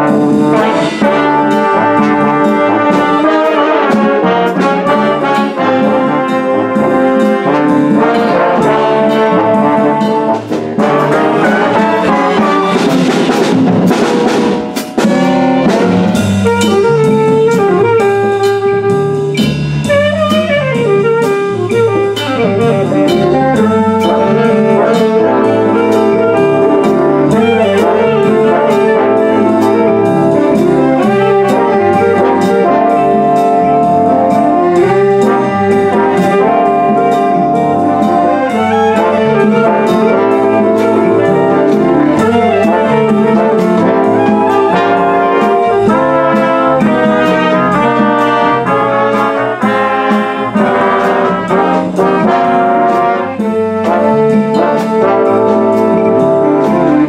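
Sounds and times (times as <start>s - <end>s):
percussion strikes: 0.0s - 57.0s
school band playing: 0.0s - 57.0s.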